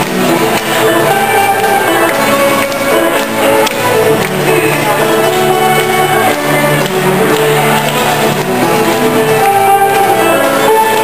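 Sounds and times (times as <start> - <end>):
folk band playing a polka: 0.0 - 11.0.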